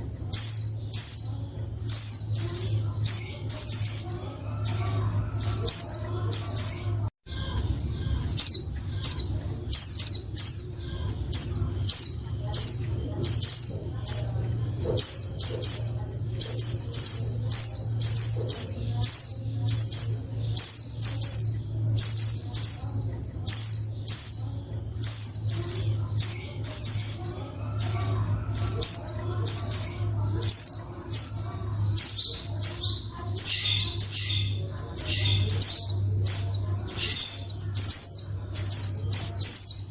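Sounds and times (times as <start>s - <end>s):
bird chirping high: 0.0s - 39.9s.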